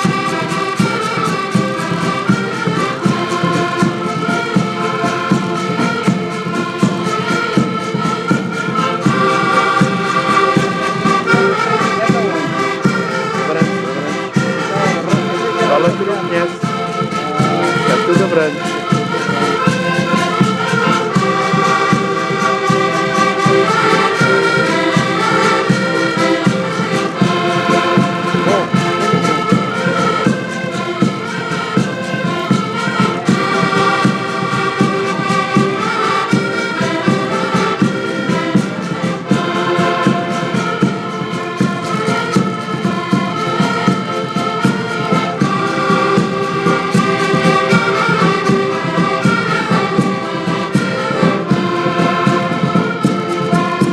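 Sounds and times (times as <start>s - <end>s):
button accordions playing folk tune: 0.0s - 53.9s
drum beating: 0.0s - 53.9s.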